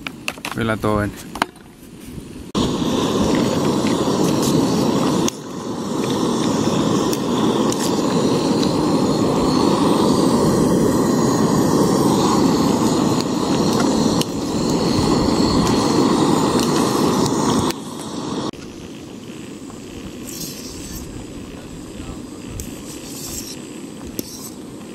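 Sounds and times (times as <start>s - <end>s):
gas stove burner roaring: 2.4s - 24.9s.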